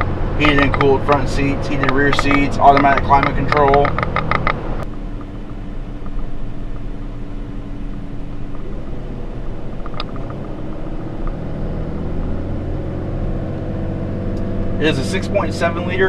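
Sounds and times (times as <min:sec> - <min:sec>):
diesel engine droning: 0:00.0 - 0:16.0
road and tire noise: 0:00.0 - 0:16.0.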